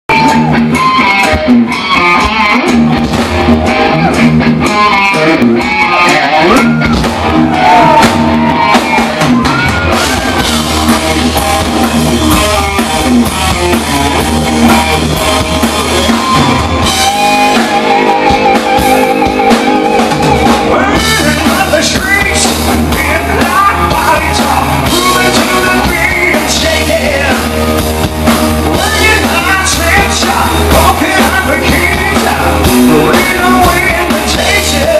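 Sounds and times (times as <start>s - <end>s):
bass guitar: 0.0s - 34.9s
drum kit: 0.1s - 34.9s
electric guitar: 0.1s - 34.9s.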